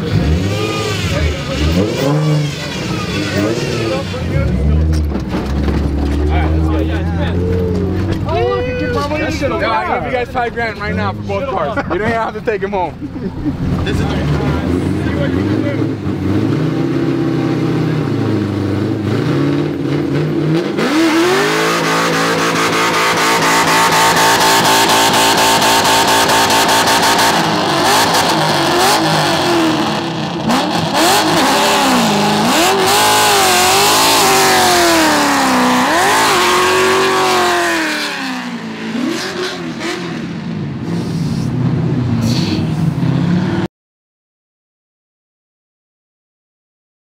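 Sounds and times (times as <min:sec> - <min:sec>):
car engine revving: 0:00.0 - 0:43.7.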